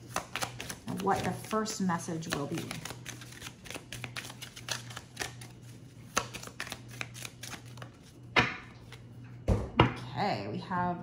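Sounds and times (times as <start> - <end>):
cards being shuffled: 0.0 - 9.1.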